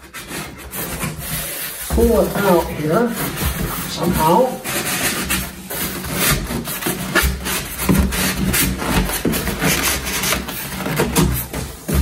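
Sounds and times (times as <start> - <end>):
styrofoam scraping cardboard box: 0.0 - 12.0.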